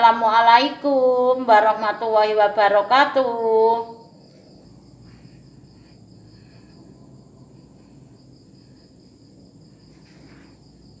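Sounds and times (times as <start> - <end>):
insect chirping trill: 0.0 - 11.0
low background hum: 0.0 - 11.0.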